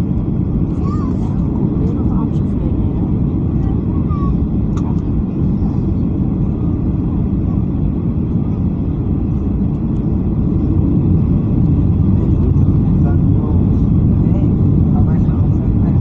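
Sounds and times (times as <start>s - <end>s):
airliner cabin engine noise: 0.0s - 16.0s.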